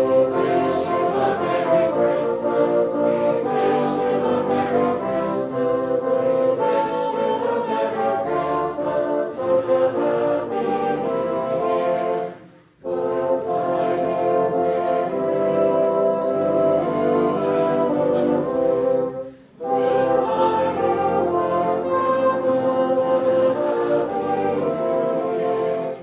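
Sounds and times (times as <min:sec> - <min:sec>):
bassoon ensemble playing carol: 0:00.0 - 0:26.0.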